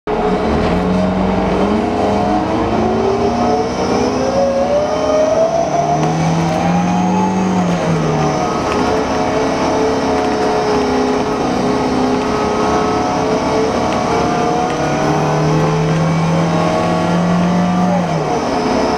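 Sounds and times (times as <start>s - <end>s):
bus engine running: 0.1s - 18.9s
sliding pitched tones: 0.1s - 18.9s.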